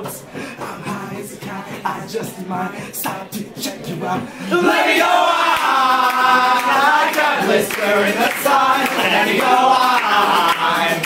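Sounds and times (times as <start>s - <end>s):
man singing lead: 0.0s - 11.0s
strummed acoustic guitar: 0.0s - 11.0s.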